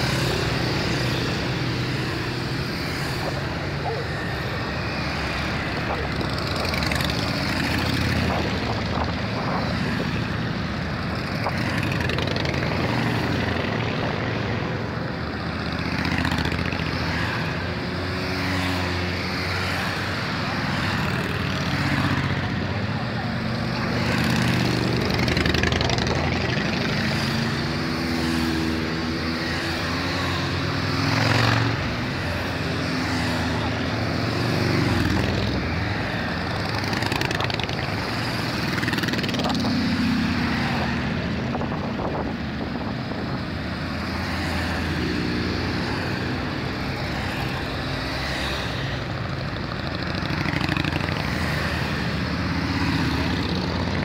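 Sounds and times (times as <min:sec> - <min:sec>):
motorcycles riding past: 0:00.0 - 0:54.0.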